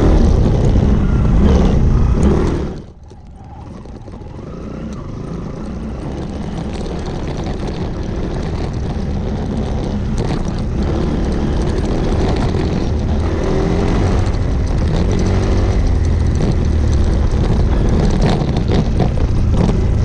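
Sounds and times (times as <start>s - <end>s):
knocks and rattles from bumps: 0.0s - 20.0s
motorcycle engine running: 0.0s - 20.0s.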